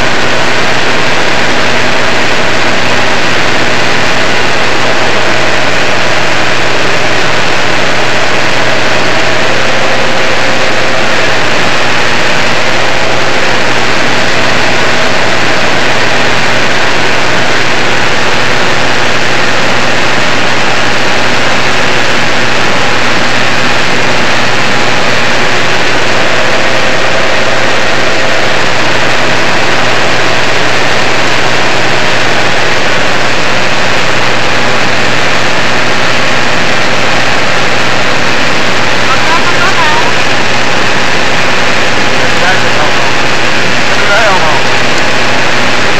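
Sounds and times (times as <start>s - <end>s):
propeller aircraft engine drone: 0.0s - 45.9s.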